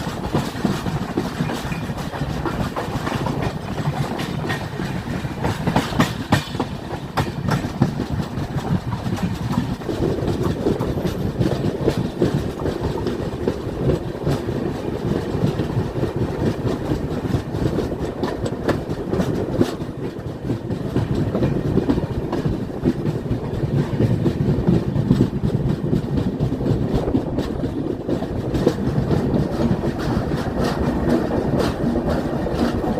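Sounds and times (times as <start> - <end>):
train wheels clacking on rail joints: 0.0 - 32.9.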